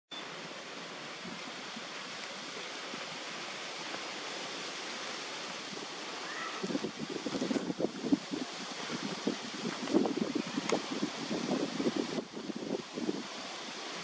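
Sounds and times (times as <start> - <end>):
outdoor background hiss: 0.1 - 14.0
crackling rustle: 1.1 - 14.0.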